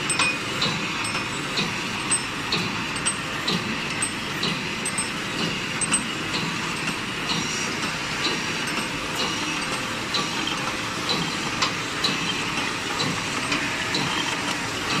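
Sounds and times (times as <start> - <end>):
sharp machine clack: 0.0 - 15.0.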